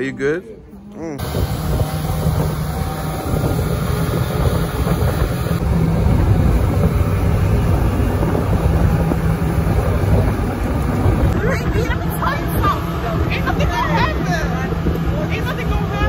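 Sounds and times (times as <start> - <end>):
motorboat engine drone: 0.9 - 16.0
water rushing: 1.2 - 16.0
wind buffeting microphone: 1.2 - 16.0.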